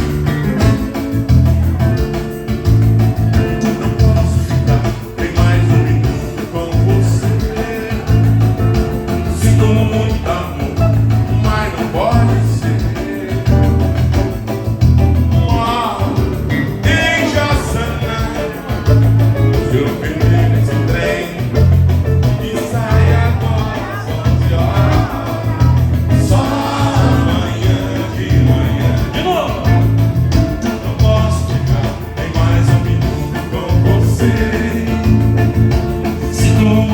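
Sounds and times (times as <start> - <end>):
heavy bass line: 0.0 - 36.9
latin dance band playing: 0.0 - 36.9
person singing: 3.4 - 14.6, 15.2 - 36.9.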